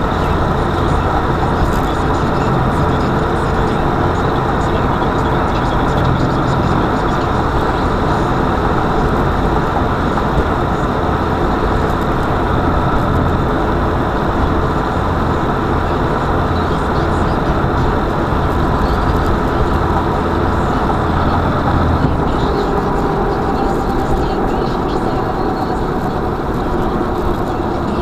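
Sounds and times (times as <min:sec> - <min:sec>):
car engine and road noise: 0:00.0 - 0:28.0
low hum: 0:00.0 - 0:28.0.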